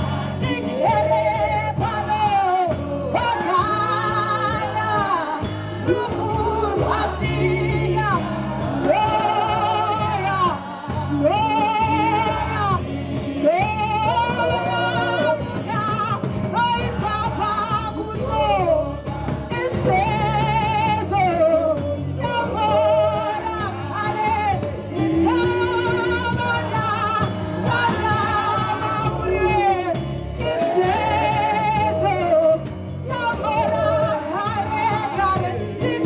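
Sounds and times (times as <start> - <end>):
backing choir singing: 0.0 - 36.0
bass guitar: 0.0 - 36.0
drum kit: 0.0 - 36.0
lead vocals with vibrato: 0.0 - 36.0.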